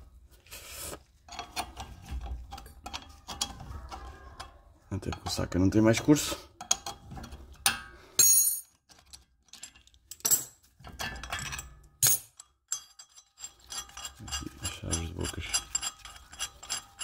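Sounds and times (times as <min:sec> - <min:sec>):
metal tools clinking: 0:01.2 - 0:03.7, 0:04.4 - 0:17.0.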